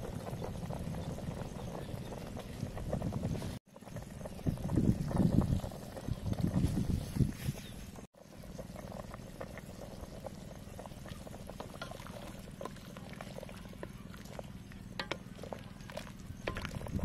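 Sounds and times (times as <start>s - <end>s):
soup bubbling in a pot: 0.0s - 17.0s.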